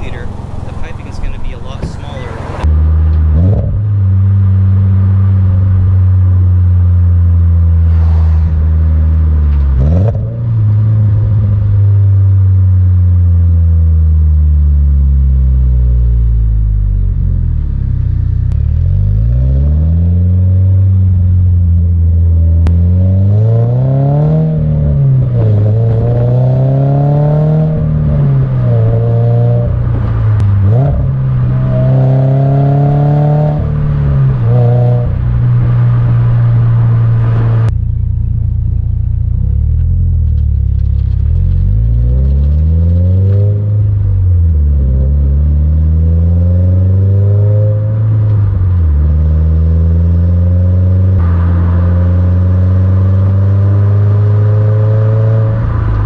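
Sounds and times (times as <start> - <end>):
car exhaust revving: 0.0 - 56.0.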